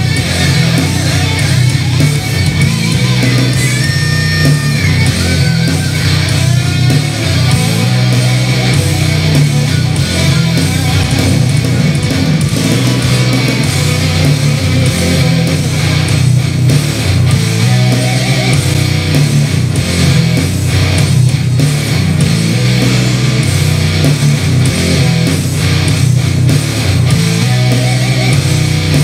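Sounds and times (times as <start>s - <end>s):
heavy rock music through speakers: 0.0s - 29.0s.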